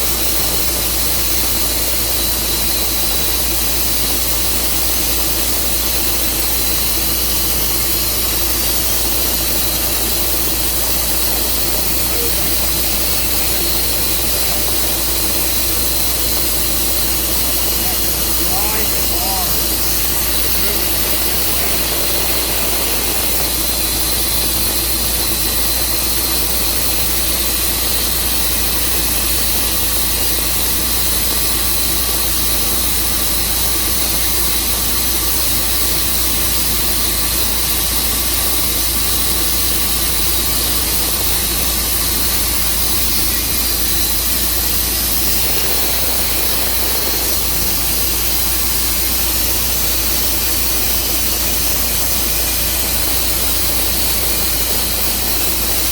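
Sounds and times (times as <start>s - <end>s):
sawmill engine running: 0.0s - 36.5s, 38.3s - 55.9s.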